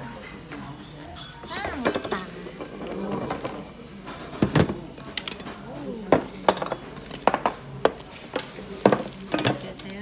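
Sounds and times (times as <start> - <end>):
dishes clinking on wooden table: 0.2 - 9.7.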